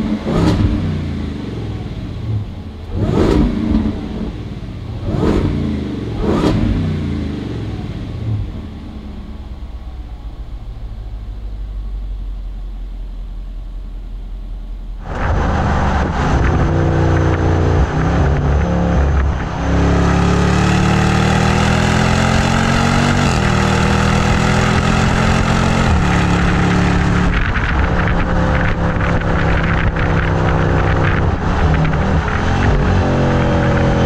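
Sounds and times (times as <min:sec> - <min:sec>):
car engine accelerating hard: 0:00.0 - 0:12.5, 0:15.0 - 0:34.0
exhaust crackling: 0:00.0 - 0:34.0.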